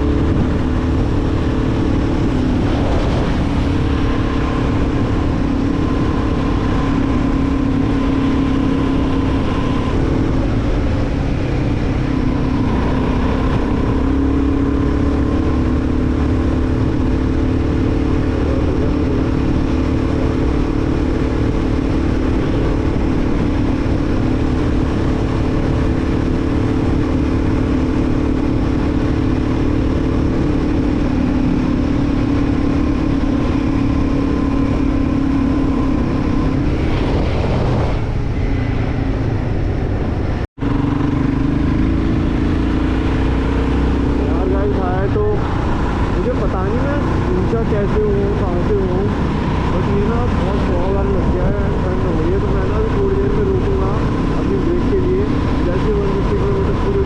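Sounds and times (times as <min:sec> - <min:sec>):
motorcycle engine cruising: 0:00.0 - 0:57.0
road rumble: 0:00.0 - 0:57.0.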